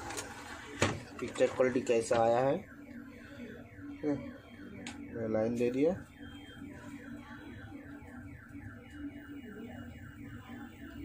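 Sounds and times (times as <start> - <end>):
electronic alarm chirping: 1.3 - 11.0.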